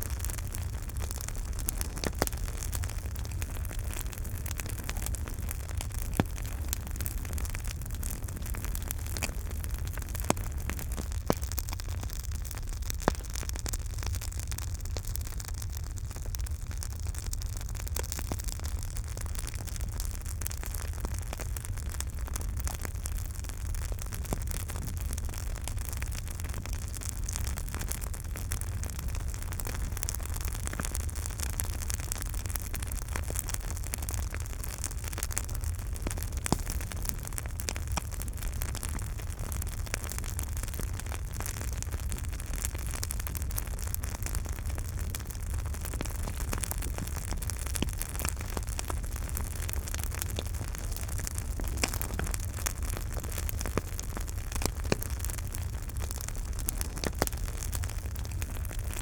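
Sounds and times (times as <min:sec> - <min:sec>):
campfire rumble: 0:00.0 - 0:59.0
wood crackling and popping: 0:00.0 - 0:59.0.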